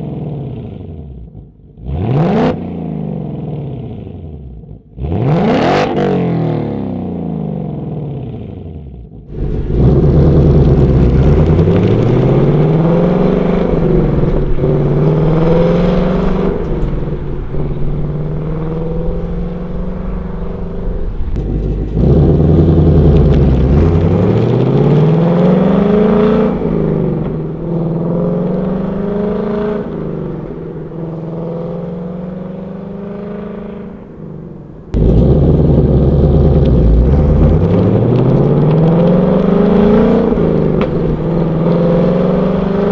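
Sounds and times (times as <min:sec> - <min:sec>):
car exhaust under hard acceleration: 0:00.0 - 0:42.9.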